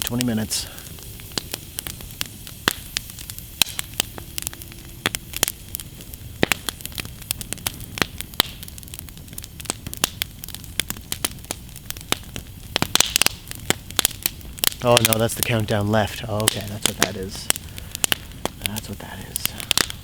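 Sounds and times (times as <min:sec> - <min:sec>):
campfire crackling and popping: 0:00.0 - 0:20.0
low hiss of burning: 0:00.0 - 0:20.0.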